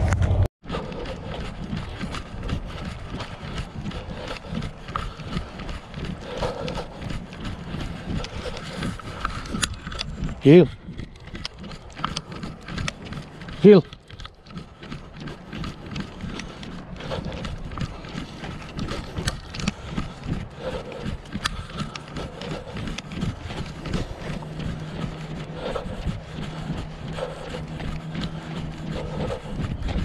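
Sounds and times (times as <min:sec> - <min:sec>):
footsteps on asphalt: 0:00.0 - 0:30.0.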